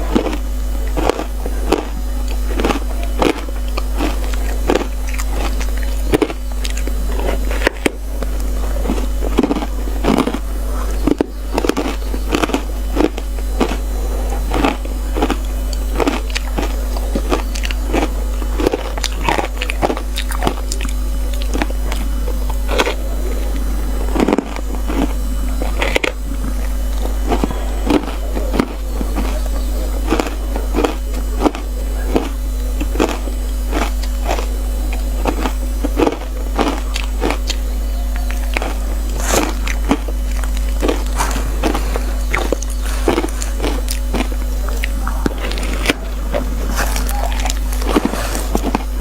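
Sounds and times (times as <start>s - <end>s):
ice being bitten and crunched: 0.0s - 49.0s
steady low hum: 0.0s - 49.0s.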